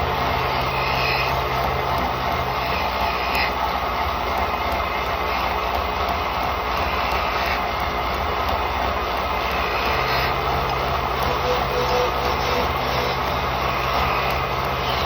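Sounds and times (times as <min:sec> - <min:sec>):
wood lathe running: 0:00.0 - 0:15.0.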